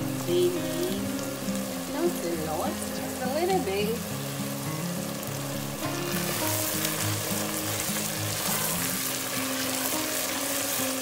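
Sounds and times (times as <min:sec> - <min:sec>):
background music with low notes: 0:00.0 - 0:11.0
tomato sauce sizzling in a pot: 0:00.0 - 0:11.0.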